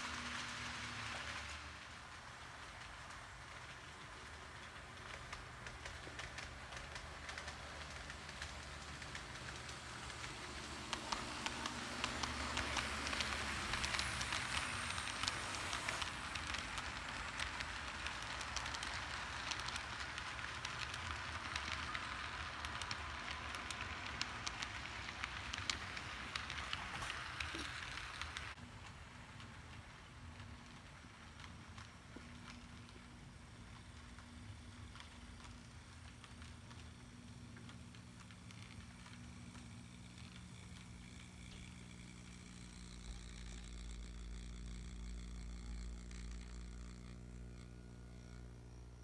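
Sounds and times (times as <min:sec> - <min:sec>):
model train rattling on track: 0:00.0 - 0:46.7
wheels clicking over rail joints: 0:00.0 - 0:46.8.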